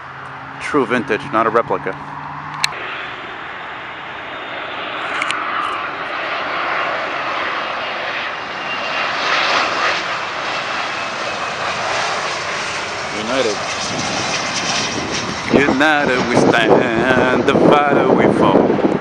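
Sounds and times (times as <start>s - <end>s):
jet engine rushing overhead: 0.0s - 19.0s.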